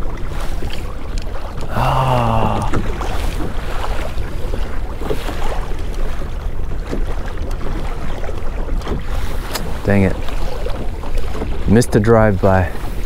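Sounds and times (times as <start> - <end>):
water lapping against kayak: 0.0 - 13.0.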